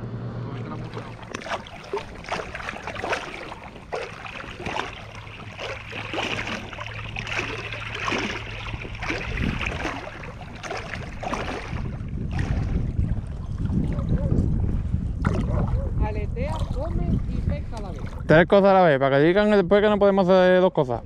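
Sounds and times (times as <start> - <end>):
wind rumbling on microphone: 0.0 - 21.0
water splashing and lapping: 0.5 - 18.4.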